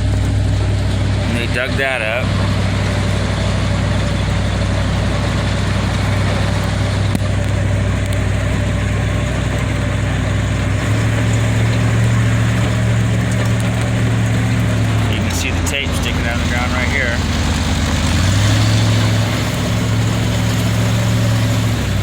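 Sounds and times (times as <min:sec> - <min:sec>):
vehicle engine driving on dirt road: 0:00.0 - 0:22.0.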